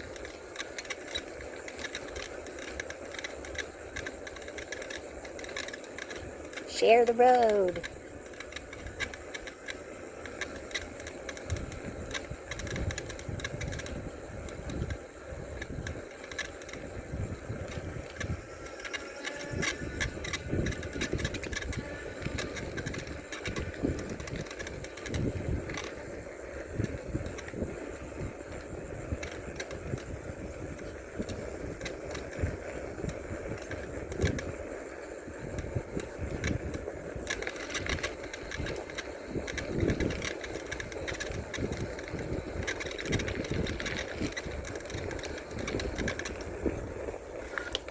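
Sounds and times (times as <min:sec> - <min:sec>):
bicycle clicks and rattles: 0:00.0 - 0:47.9
wind buffeting microphone: 0:06.0 - 0:47.9.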